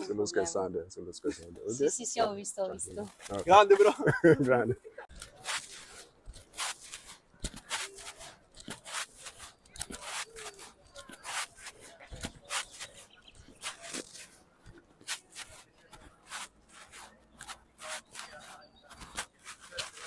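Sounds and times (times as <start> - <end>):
rustling and scraping: 1.3 - 20.0.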